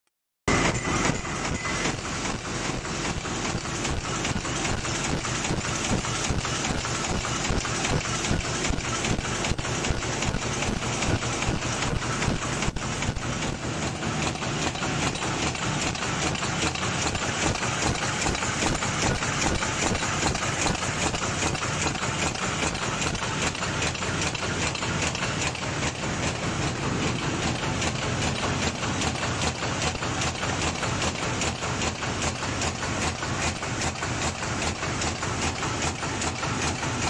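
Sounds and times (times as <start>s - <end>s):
bowl forming machine clattering: 0.5s - 37.0s.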